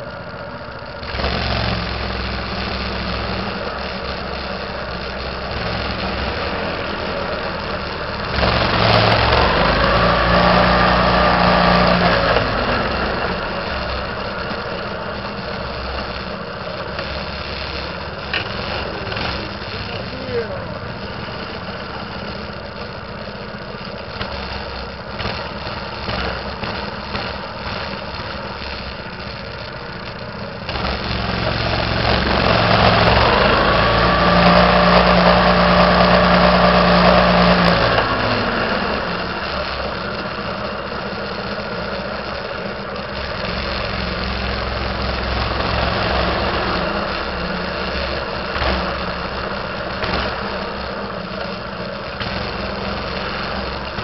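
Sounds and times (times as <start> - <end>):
minibike engine running: 0.0 - 54.0.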